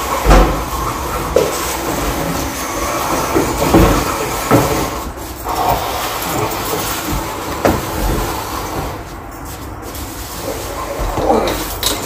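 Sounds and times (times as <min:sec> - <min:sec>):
refrigerator scraping across floor: 0:00.0 - 0:12.0.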